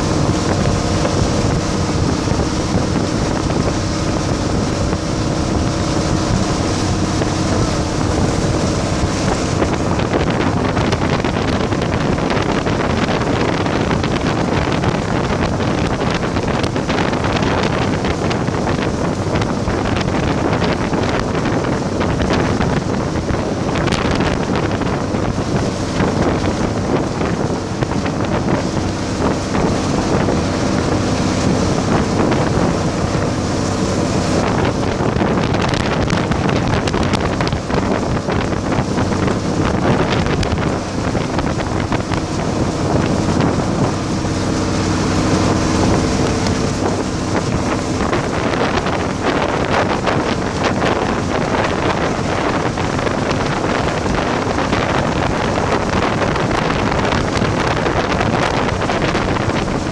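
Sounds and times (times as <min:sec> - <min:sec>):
boat engine humming: 0:00.0 - 0:59.9
water rushing past hull: 0:00.0 - 0:59.9
wind buffeting microphone: 0:00.0 - 0:59.9.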